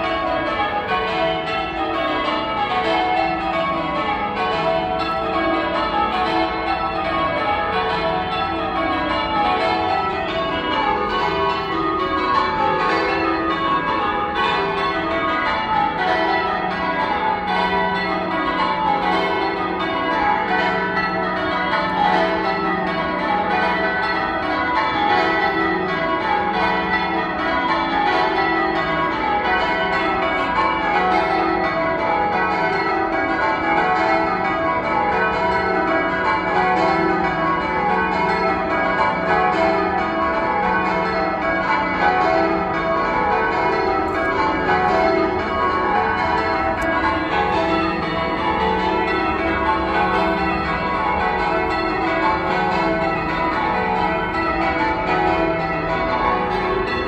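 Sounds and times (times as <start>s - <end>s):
church bells change ringing: 0.0s - 57.0s.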